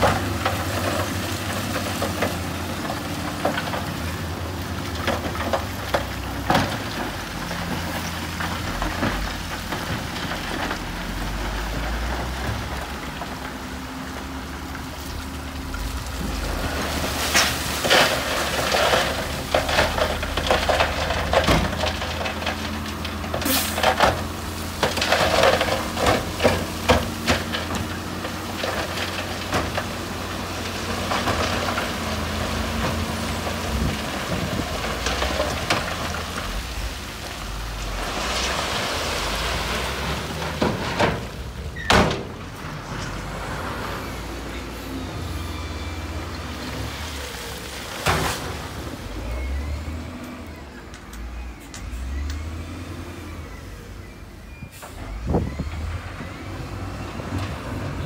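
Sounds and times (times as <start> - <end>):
heavy diesel engine droning: 0.0 - 58.0.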